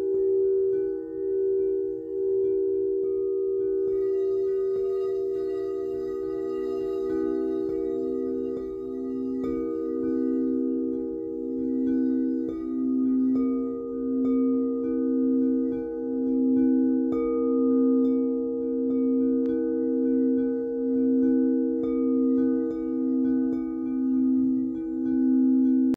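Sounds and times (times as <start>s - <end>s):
singing bowls ringing: 0.0s - 25.9s.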